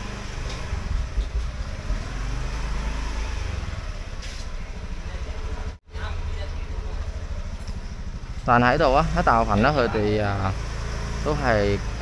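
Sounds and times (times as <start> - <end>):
motorbike traffic drone: 0.0 - 12.0.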